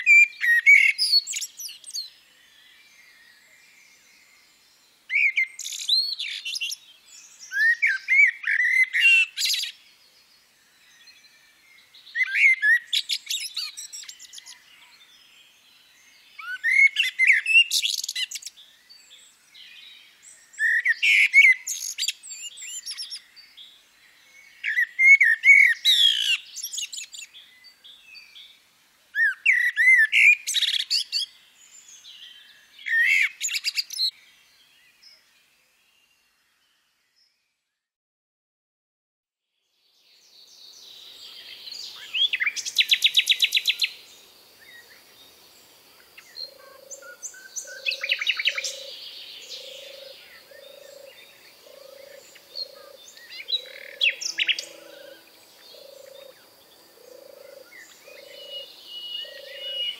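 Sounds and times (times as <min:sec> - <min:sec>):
songbird singing with trill: 0:00.0 - 0:37.9, 0:39.6 - 0:59.9.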